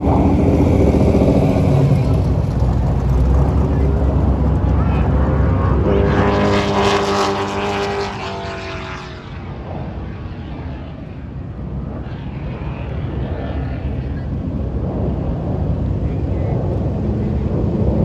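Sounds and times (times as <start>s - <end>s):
jet fighter roaring past: 0.0s - 18.0s.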